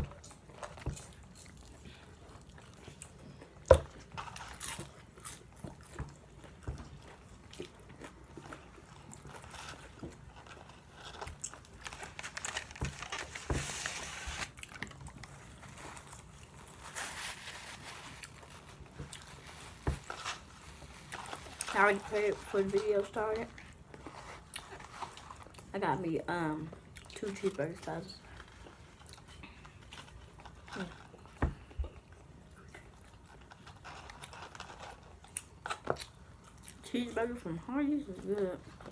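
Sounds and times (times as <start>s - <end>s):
crunching and chewing food: 0.0s - 38.9s.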